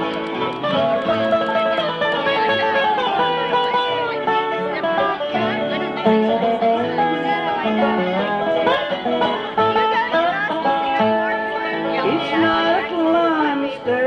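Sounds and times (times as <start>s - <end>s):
banjo picking: 0.0s - 14.0s
bass: 0.0s - 14.0s
fiddle melody: 0.0s - 14.0s
guitar picking: 0.0s - 14.0s.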